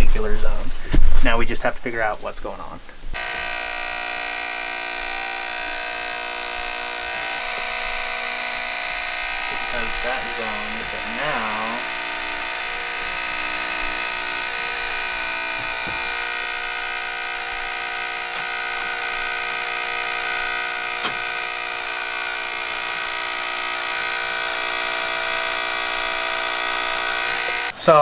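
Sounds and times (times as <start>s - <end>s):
alarm buzzing: 3.1s - 27.8s.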